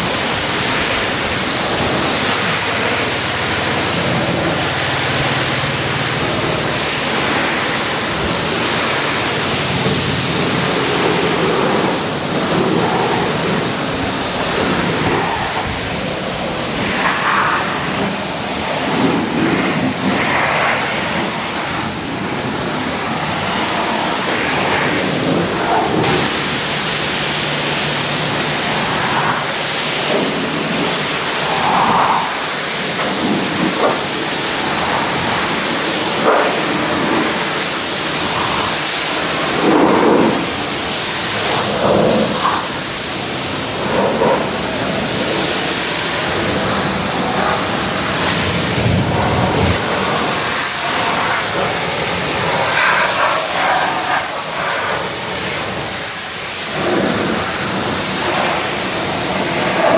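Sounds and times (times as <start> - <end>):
pressure washer spray hissing: 0.0 - 59.9.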